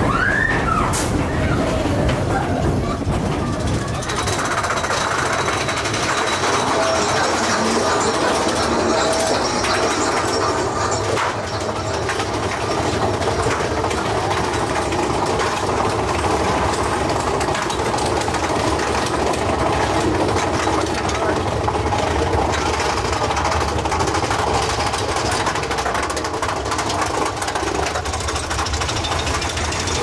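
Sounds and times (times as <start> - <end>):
roller coaster wheels rattling on rails: 0.0 - 30.0.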